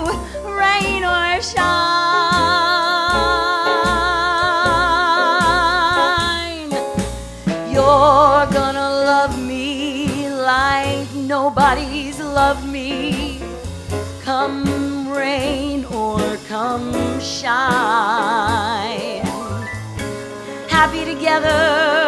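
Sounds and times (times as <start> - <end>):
woman singing with vibrato: 0.0 - 6.8, 7.7 - 13.4, 14.2 - 19.6, 20.6 - 22.0
small jazz band: 0.0 - 22.0.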